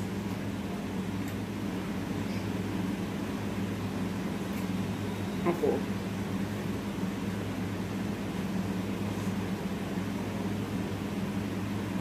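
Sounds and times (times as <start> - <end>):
low equipment hum: 0.0 - 12.0.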